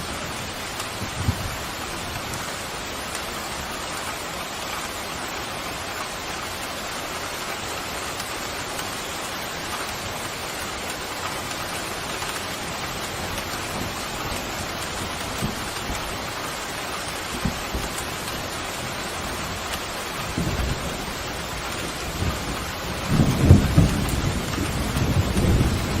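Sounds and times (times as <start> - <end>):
heavy rainfall: 0.0 - 26.0.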